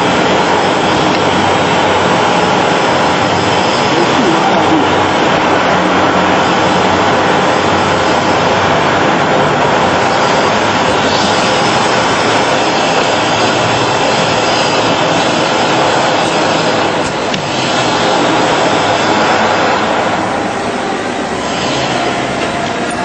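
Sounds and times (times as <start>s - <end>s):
machinery rushing hiss: 0.0s - 23.0s.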